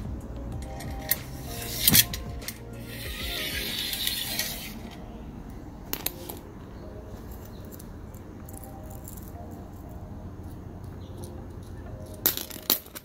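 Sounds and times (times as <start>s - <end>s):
metal scraping along rail: 0.0s - 13.0s.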